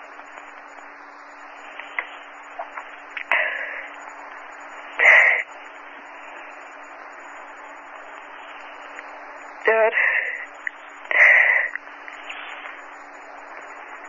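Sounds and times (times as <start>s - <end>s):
tape hiss and hum: 0.0s - 14.0s.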